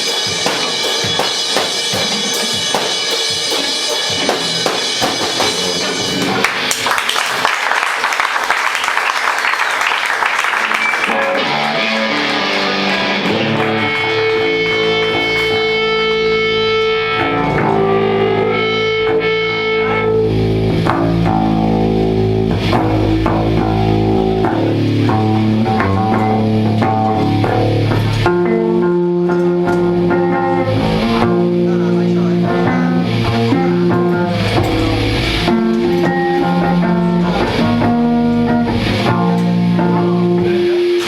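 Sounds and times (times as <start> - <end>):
bass guitar line: 0.0 - 7.0, 10.3 - 41.0
electric guitar notes: 0.0 - 7.0, 10.0 - 41.0.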